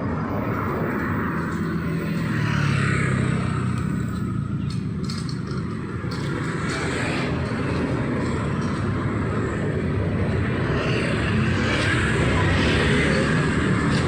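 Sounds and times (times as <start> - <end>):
engine rumble with rushing noise: 0.0 - 14.0.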